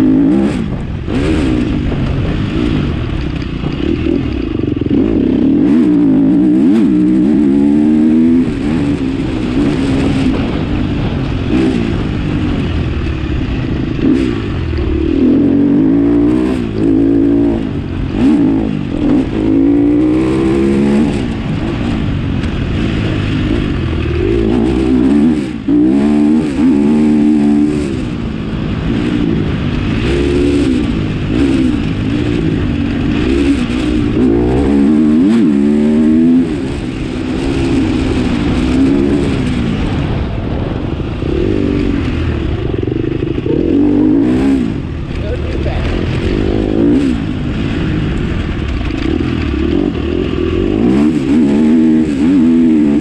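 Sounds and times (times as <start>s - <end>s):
low rumble: 0.0s - 53.0s
vehicle engine revving: 0.0s - 53.0s.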